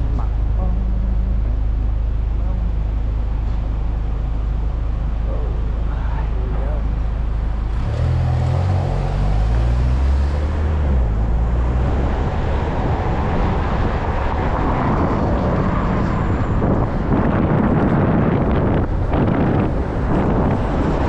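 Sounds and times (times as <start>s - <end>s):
vehicle engine rumbling past: 0.0s - 21.0s
wind and road noise: 0.0s - 21.0s.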